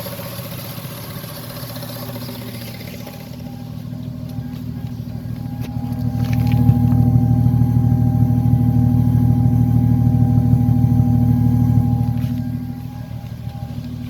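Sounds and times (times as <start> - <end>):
car engine running: 0.0 - 14.0
engine ticking: 0.0 - 14.0
faint whine: 0.9 - 14.0.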